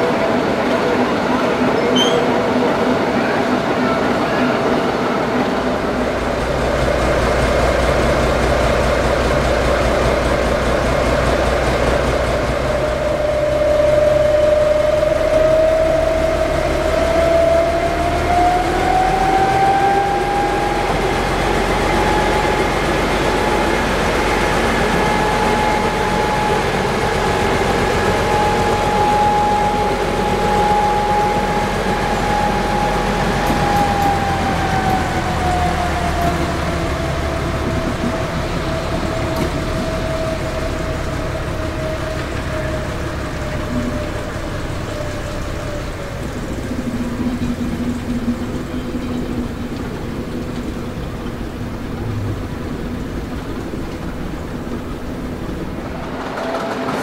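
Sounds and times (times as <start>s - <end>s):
diesel locomotive engines running: 0.0s - 57.0s
thin whine: 0.0s - 57.0s.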